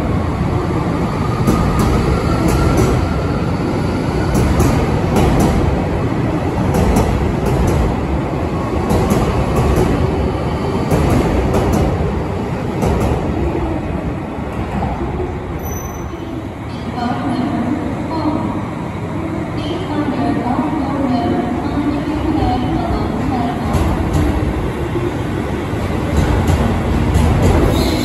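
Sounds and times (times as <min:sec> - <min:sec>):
train wheels rumbling on rail: 0:00.0 - 0:17.3, 0:21.2 - 0:28.0.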